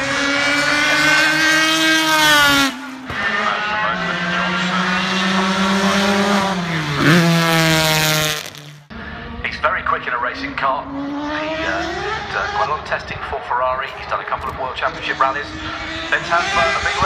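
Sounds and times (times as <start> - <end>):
racing car engine revving: 0.0 - 17.0.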